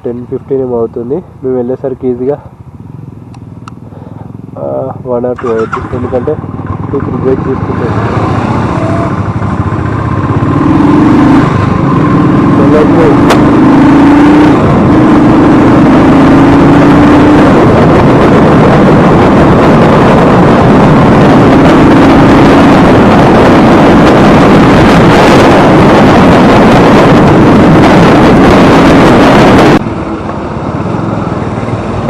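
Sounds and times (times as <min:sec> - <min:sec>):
motorcycle engine hum: 0:00.0 - 0:32.0
wind rush on microphone: 0:05.6 - 0:32.0.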